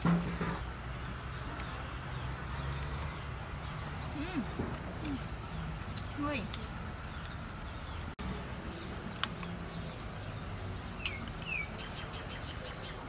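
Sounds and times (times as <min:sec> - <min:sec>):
steady outdoor background: 0:00.0 - 0:13.0
small bird chirping: 0:00.6 - 0:13.0.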